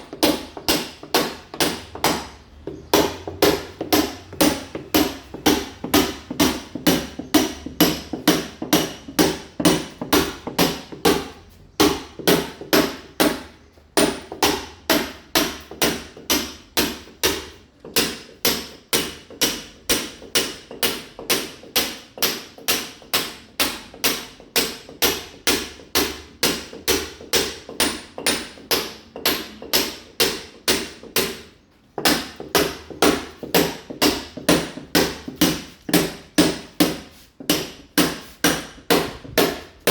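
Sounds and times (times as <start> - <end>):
hammer striking masonry wall: 0.0 - 39.9.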